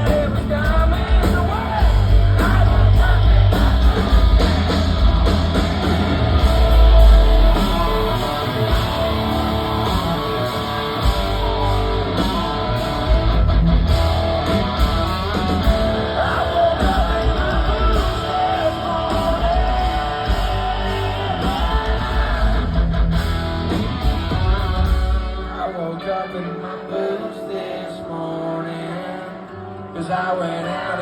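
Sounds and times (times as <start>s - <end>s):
live rock band playing: 0.0s - 26.9s
heavy electric guitars: 0.0s - 31.0s.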